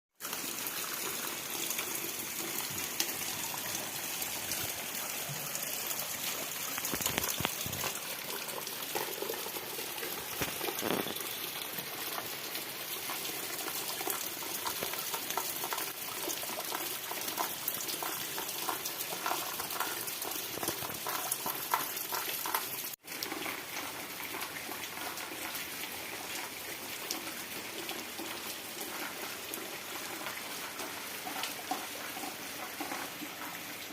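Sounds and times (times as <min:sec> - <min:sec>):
heavy rain falling: 0:00.3 - 0:33.9.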